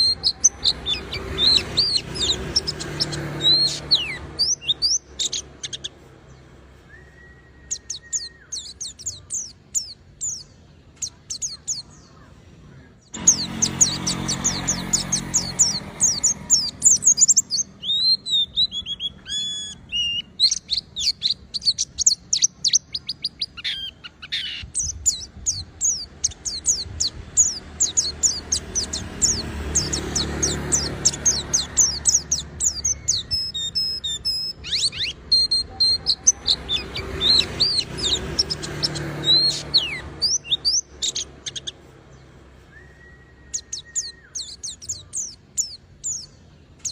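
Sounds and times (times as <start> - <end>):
bird singing high chirps: 0.0 - 46.9.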